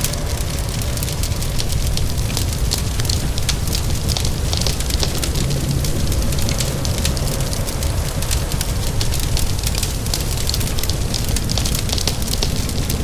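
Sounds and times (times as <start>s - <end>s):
fire crackling and popping: 0.0s - 13.0s
rain hiss: 0.0s - 13.0s.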